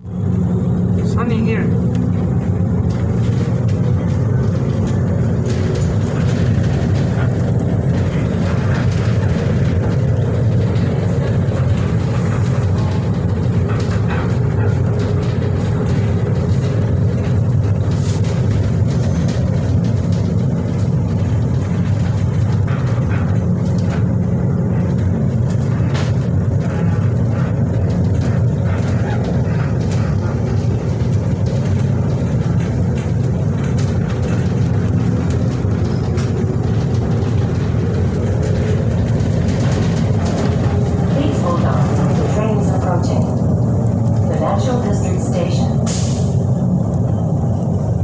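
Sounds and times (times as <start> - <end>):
people-mover tyres rumbling: 0.0 - 48.0.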